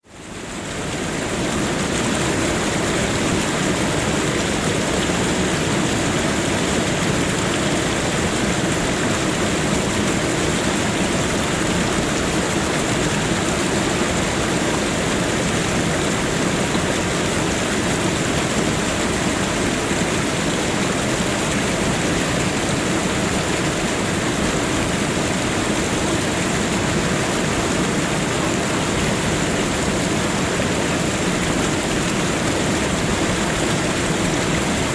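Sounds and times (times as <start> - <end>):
waterfall splashing: 0.1 - 34.9.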